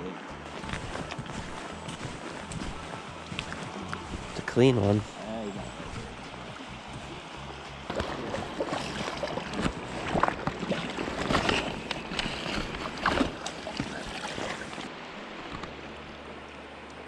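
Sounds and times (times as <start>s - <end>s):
creek water splashing: 0.2s - 17.0s.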